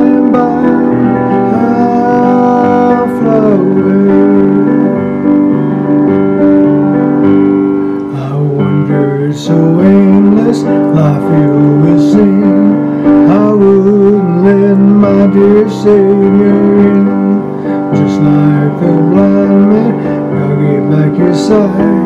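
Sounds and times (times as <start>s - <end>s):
man singing long notes: 0.0s - 5.2s, 8.0s - 22.0s
instrumental accompaniment: 0.0s - 22.0s.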